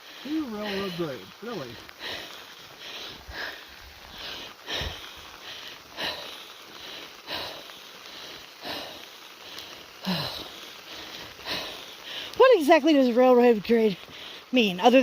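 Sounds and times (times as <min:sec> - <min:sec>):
person breathing: 0:00.0 - 0:12.4, 0:14.0 - 0:14.5
rain hissing: 0:00.0 - 0:15.0.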